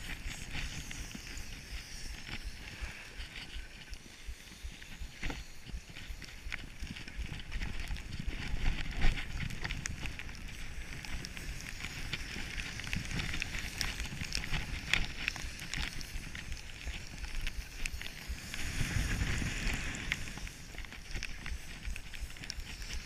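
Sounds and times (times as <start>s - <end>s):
skis hissing over packed snow: 0.0s - 23.0s
wind rumbling on microphone: 0.0s - 23.0s.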